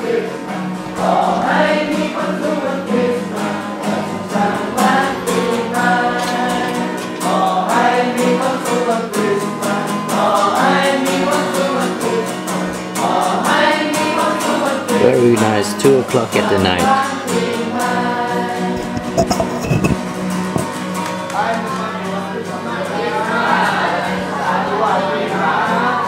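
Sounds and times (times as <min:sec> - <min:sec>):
group of people singing: 0:00.0 - 0:19.9, 0:21.6 - 0:26.0
strummed acoustic guitar: 0:00.0 - 0:26.0.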